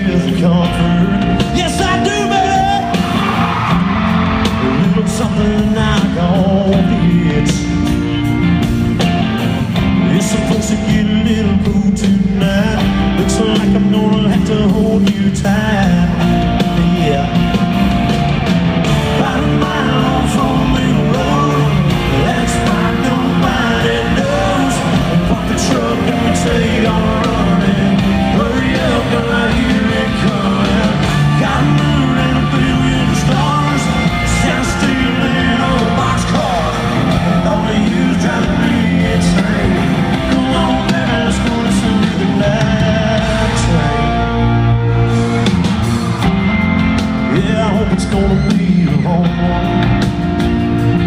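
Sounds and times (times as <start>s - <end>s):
person singing: 0.0s - 8.1s, 10.0s - 17.7s, 18.9s - 45.6s, 47.2s - 50.1s
country-rock band playing live: 0.0s - 51.0s
electric guitar: 0.0s - 51.0s.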